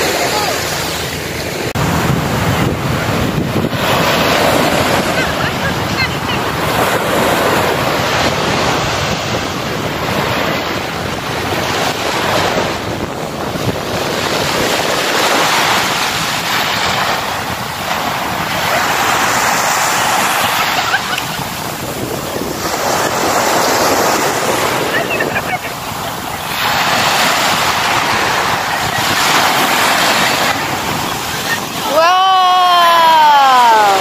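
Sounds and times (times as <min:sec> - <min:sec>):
small waves breaking on sandy shore: 0:00.0 - 0:34.0.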